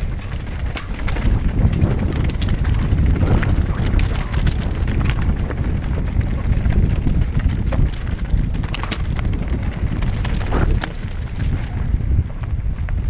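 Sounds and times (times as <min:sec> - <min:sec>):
bike tyres rumbling over stones: 0:00.0 - 0:13.0
stones and bike clicking and rattling: 0:00.0 - 0:13.0
wind on microphone: 0:00.0 - 0:13.0.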